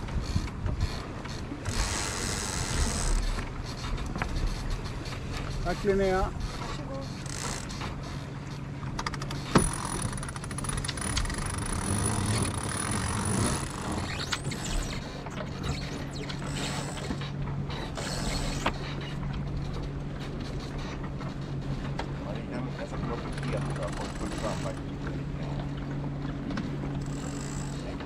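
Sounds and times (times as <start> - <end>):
rigging clicking and creaking: 0.0 - 28.0
steady low hum: 0.0 - 28.0.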